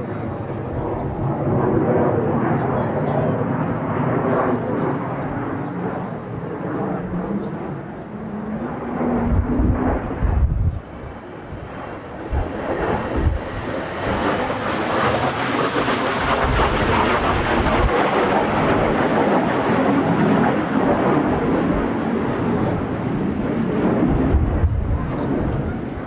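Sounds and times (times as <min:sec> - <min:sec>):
wind buffeting microphone: 0:00.0 - 0:15.0, 0:16.0 - 0:26.0
jets flying past: 0:00.0 - 0:26.0.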